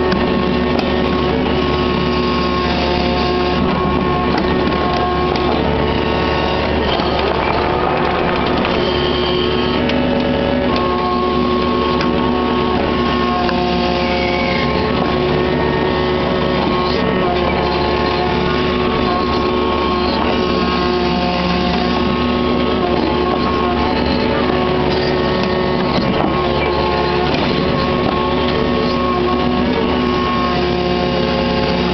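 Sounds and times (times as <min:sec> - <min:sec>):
excavator diesel engine running: 0:00.0 - 0:31.9
hydraulic whine: 0:00.0 - 0:31.9.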